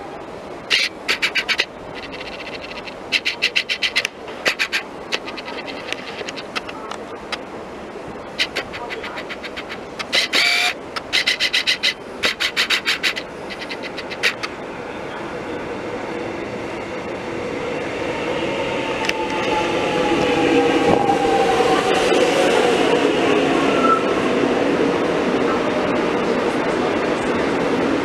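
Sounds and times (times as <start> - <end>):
train running noise: 0.0 - 28.0.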